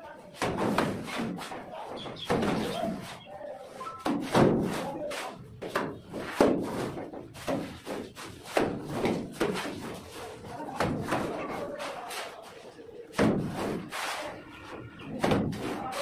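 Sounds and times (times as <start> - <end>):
wet mortar slapping wall: 0.1 - 3.2, 3.9 - 14.4, 15.1 - 16.0.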